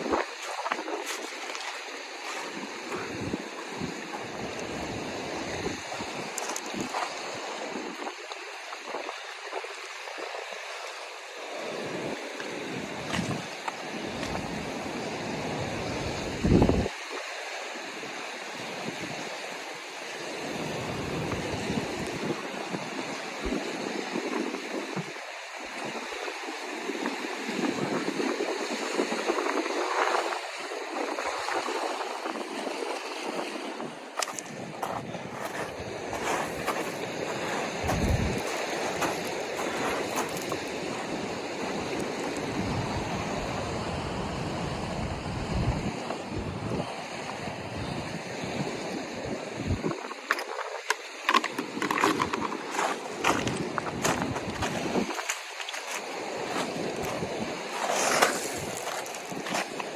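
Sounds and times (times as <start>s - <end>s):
wind buffeting microphone: 0.0s - 9.9s, 11.8s - 16.9s, 20.4s - 59.9s
ocean surf washing ashore: 0.0s - 59.9s.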